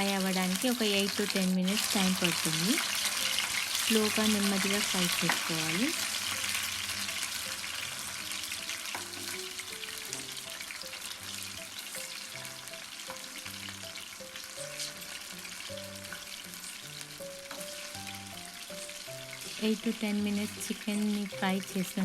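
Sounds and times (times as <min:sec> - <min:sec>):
chicken sizzling in oil: 0:00.0 - 0:22.0
soft background music: 0:00.0 - 0:22.0.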